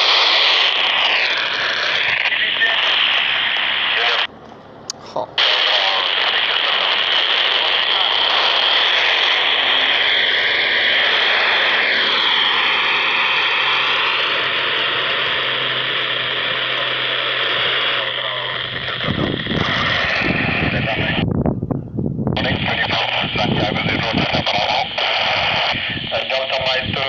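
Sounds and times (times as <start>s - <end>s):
radio static hiss: 0.0s - 4.3s, 4.9s - 21.2s, 22.4s - 27.0s.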